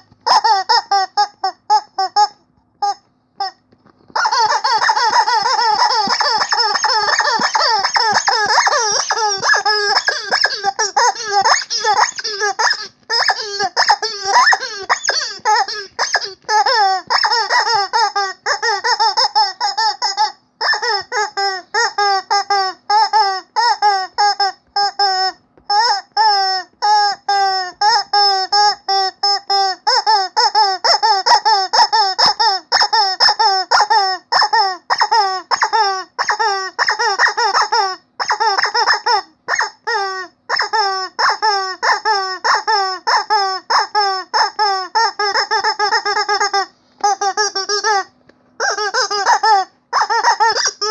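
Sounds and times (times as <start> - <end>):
rubber chicken toy squeaks: 0.0 - 50.9.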